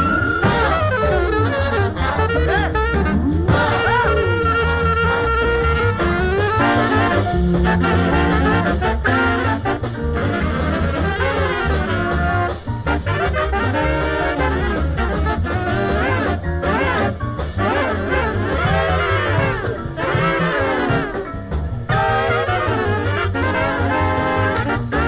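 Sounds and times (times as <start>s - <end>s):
big band swing music: 0.0s - 25.0s.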